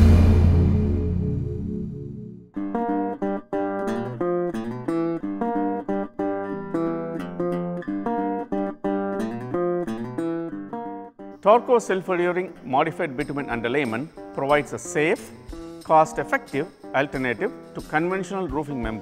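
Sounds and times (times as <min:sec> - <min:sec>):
plucked guitar: 0:00.0 - 0:19.0.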